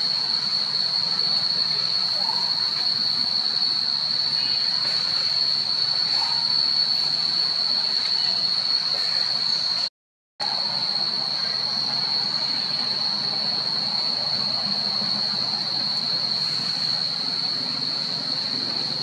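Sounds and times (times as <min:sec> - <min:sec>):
cicadas droning: 0:00.0 - 0:19.0.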